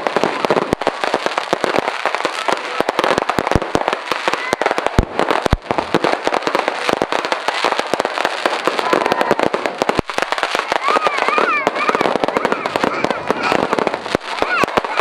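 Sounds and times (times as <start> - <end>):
fireworks cracks and bangs: 0.0 - 15.0
heavy fireworks booms: 0.0 - 15.0.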